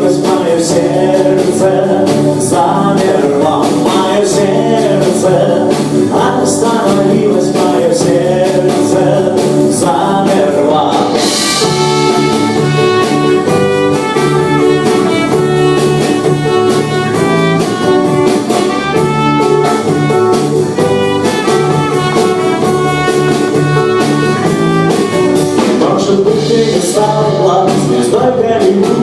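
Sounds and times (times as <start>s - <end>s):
live band playing instrumental: 0.0s - 29.0s.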